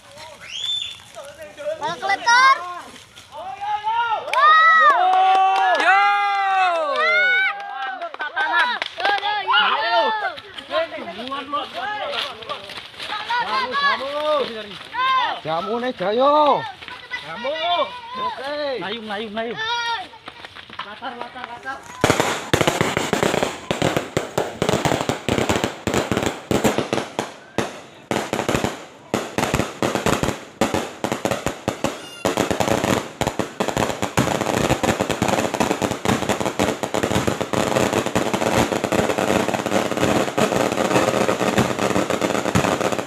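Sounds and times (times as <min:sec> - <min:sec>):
firecrackers banging and crackling: 0:00.0 - 0:43.0.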